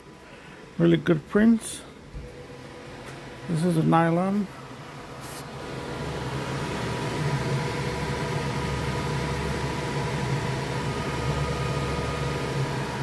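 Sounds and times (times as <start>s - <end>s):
fans whirring: 0.0s - 13.0s
hum: 0.0s - 13.0s.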